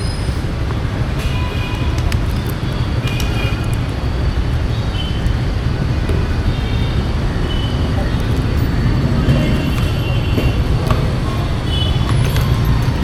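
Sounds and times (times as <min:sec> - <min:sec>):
motorcycle engine rumbling: 0:01.8 - 0:13.0.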